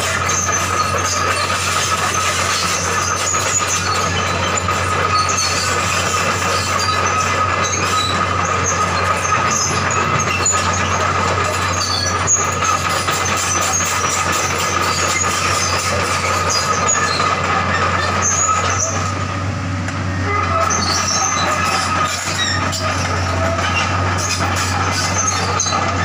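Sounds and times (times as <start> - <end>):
excavator engine hum with whine: 0.0 - 26.0
metallic track squeaks: 0.0 - 26.0.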